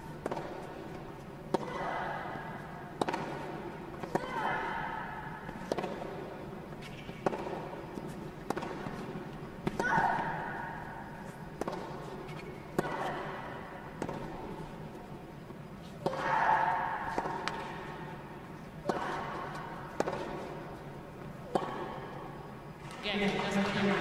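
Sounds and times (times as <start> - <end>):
racket hitting tennis ball: 0.0 - 14.8, 15.9 - 23.0.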